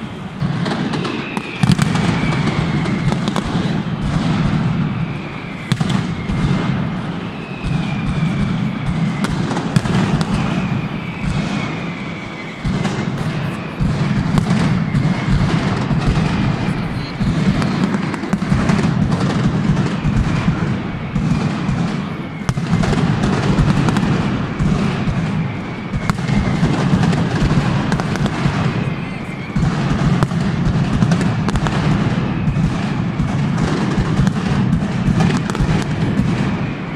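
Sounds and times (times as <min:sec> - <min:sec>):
falling firework whistles: 0:00.0 - 0:36.9
firecracker bangs and crackles: 0:00.0 - 0:36.9.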